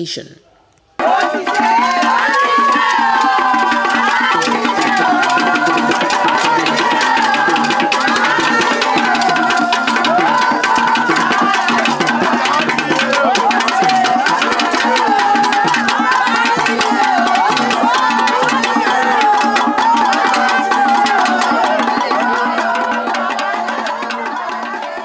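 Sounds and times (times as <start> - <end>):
hand drum percussion: 1.0 - 25.0.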